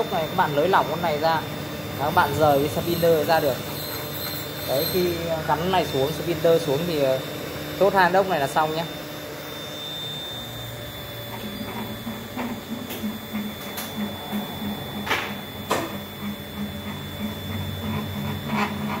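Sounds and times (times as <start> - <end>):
steady high whine: 0.0 - 19.0
stepper motors humming: 0.0 - 19.0.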